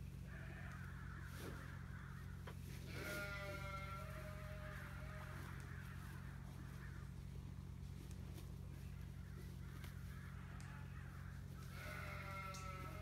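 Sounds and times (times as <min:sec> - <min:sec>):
steady low hum: 0:00.0 - 0:13.0
faint harsh animal calls: 0:00.2 - 0:13.0.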